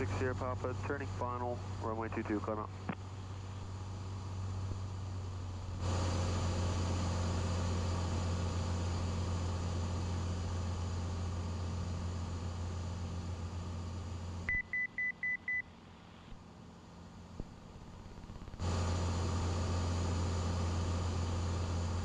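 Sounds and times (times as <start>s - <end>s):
piston aircraft engine drone: 0.0s - 22.0s.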